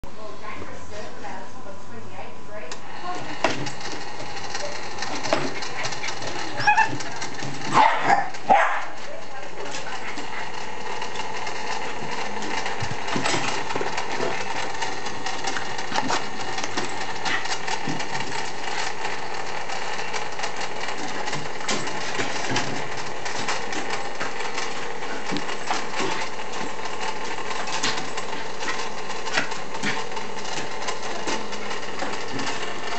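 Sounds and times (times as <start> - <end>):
small electric motor and fan: 2.6 - 32.9.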